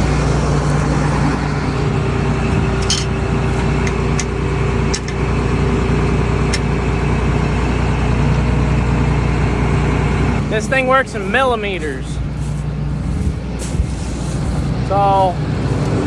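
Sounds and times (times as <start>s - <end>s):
combine harvester humming: 0.0s - 16.0s.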